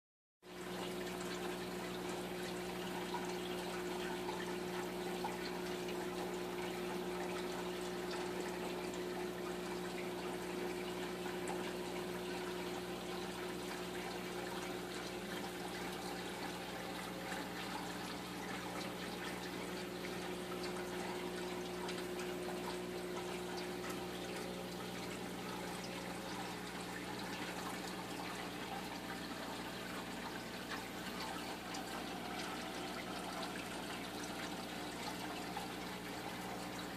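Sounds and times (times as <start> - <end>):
trickling pouring water: 0.5 - 36.9.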